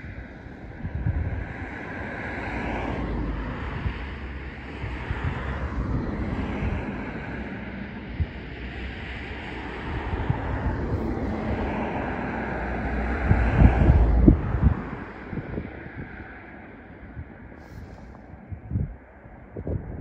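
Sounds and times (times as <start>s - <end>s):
distant engine drone: 0.0s - 20.0s
wind buffeting microphone: 0.0s - 20.0s.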